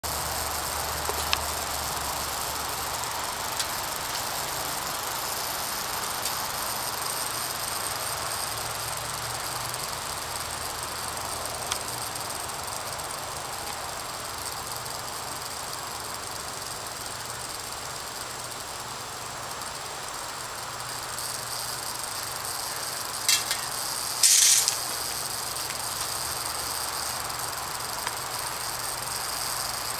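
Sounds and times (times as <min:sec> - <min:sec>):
rattlesnake rattling: 0:00.0 - 0:29.9.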